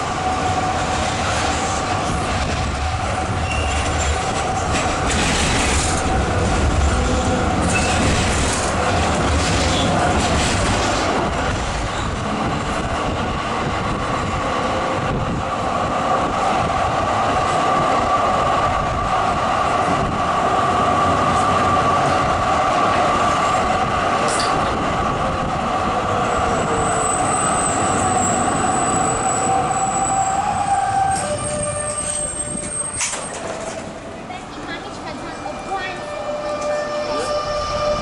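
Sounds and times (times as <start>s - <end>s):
tram rolling and motor hum: 0.0s - 38.0s.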